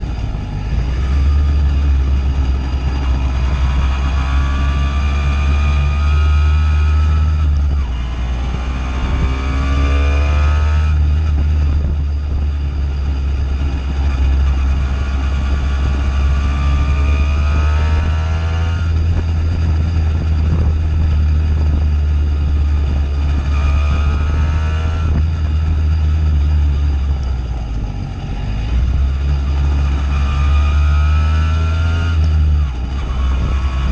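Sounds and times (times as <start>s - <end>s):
two-stroke moped engine droning: 0.0s - 33.9s.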